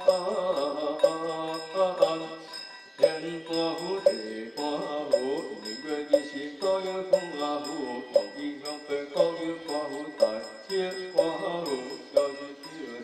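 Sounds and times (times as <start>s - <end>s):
sharp percussion strikes: 0.0s - 12.4s
thin bell-like ringing: 0.0s - 13.0s.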